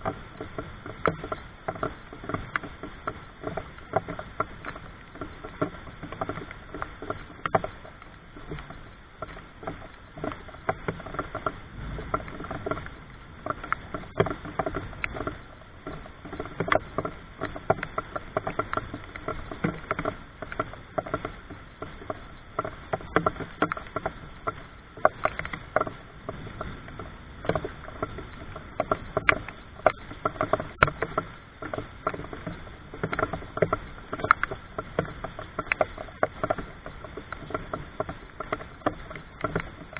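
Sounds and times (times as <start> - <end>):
rain falling: 0.0 - 39.9
sharp drips and taps: 0.0 - 39.9.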